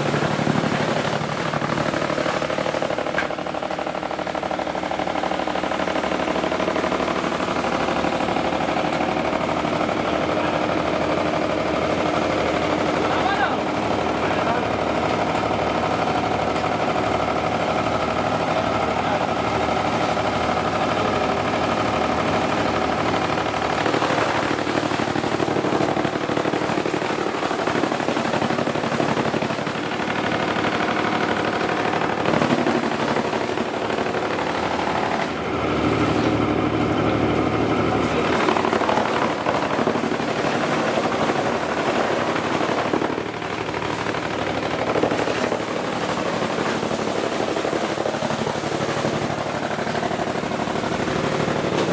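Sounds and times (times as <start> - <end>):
pulsing engine running: 0.0 - 51.9.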